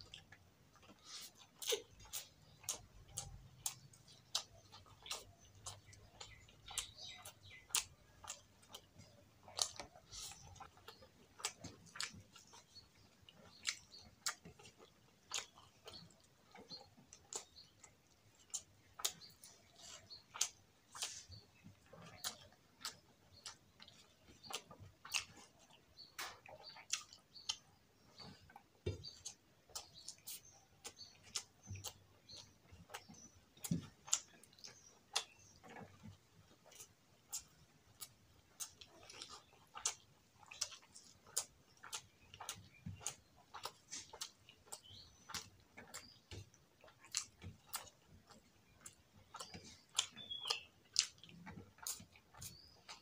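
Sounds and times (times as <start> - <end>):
wet chewing and lip smacks: 0.0 - 53.0.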